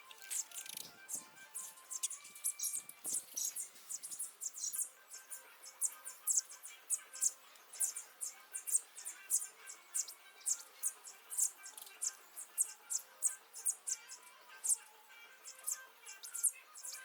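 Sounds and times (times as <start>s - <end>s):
faint background music: 0.0s - 17.0s
high-pitched chirping: 0.0s - 17.0s.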